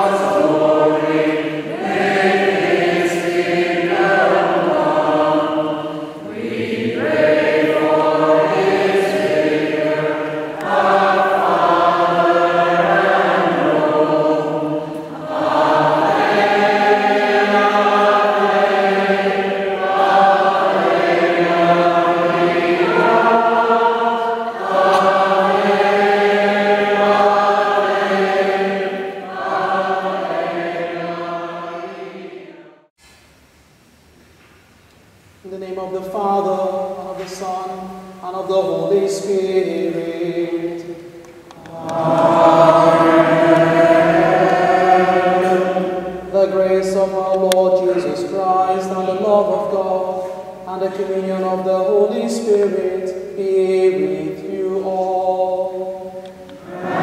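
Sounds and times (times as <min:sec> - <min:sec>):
choir singing a slow hymn: 0:00.0 - 0:32.9, 0:35.6 - 0:57.0.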